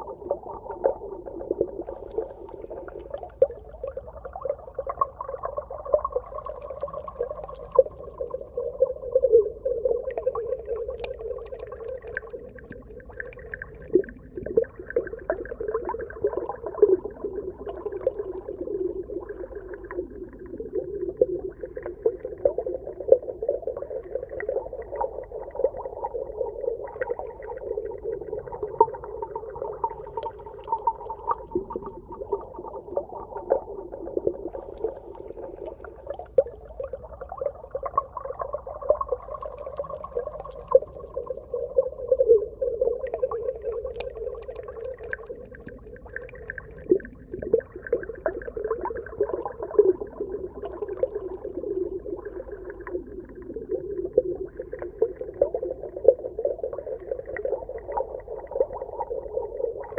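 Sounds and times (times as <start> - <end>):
crackling clicks and pops: 0.2 - 8.4, 9.2 - 59.9.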